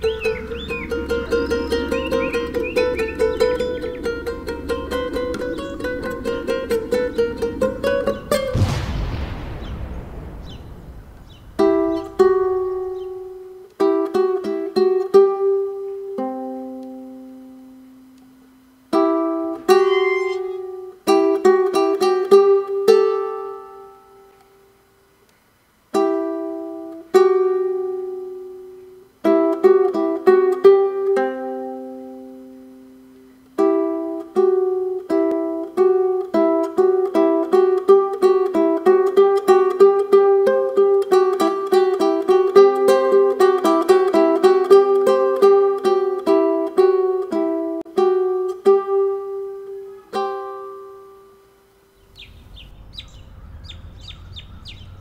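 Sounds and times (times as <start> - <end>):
ukulele playing: 0.0 - 8.8, 11.6 - 24.7, 25.9 - 51.6.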